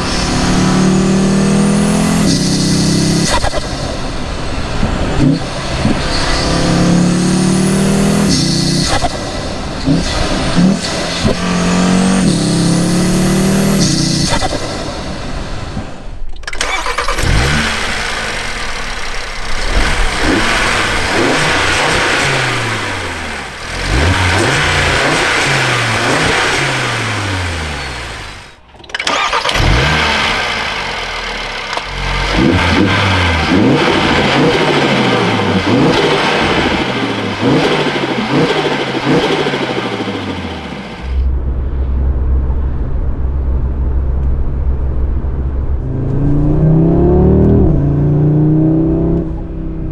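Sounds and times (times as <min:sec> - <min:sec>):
turbo intake whoosh: 0:00.0 - 0:28.6, 0:29.3 - 0:49.9
car engine revving: 0:00.0 - 0:49.9.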